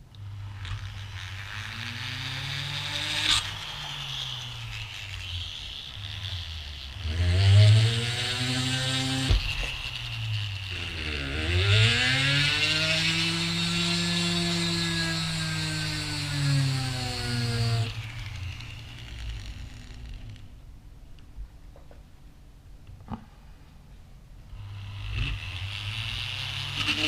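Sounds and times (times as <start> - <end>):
grinder motor speed rising and falling: 0.0 - 20.6, 24.5 - 27.0
bit grinding into wood: 0.2 - 20.5, 24.6 - 27.0.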